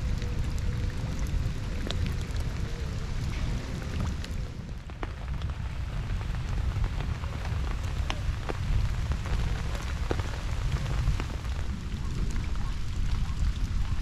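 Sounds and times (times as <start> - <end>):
dense low rumble: 0.0 - 14.0
raindrops tapping close by: 0.0 - 14.0
steady rain falling: 0.0 - 14.0.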